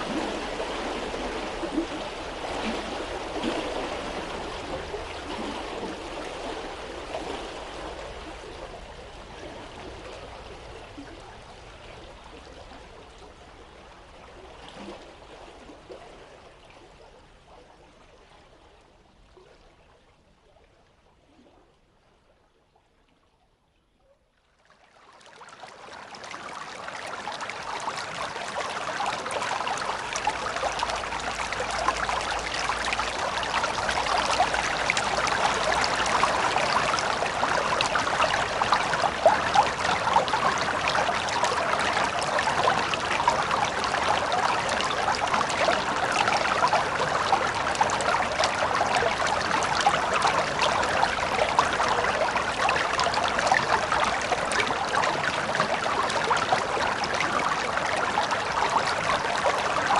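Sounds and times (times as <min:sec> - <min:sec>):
river water flowing: 0:00.0 - 0:19.9, 0:24.7 - 0:59.9.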